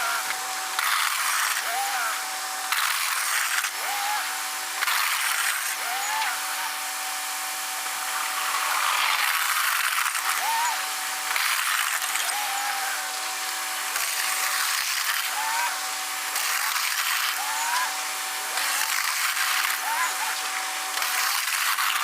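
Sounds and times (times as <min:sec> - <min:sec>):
machine whining: 0:00.0 - 0:22.0.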